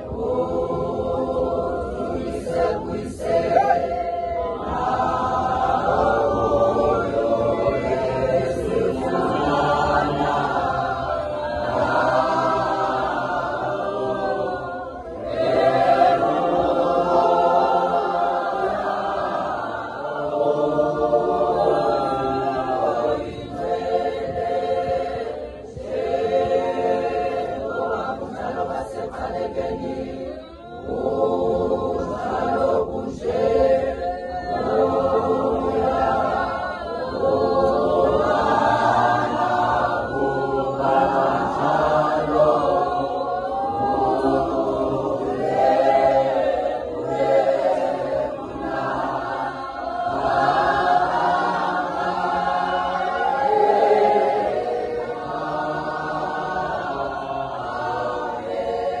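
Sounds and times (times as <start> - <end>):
congregation singing in harmony: 0.0 - 59.0.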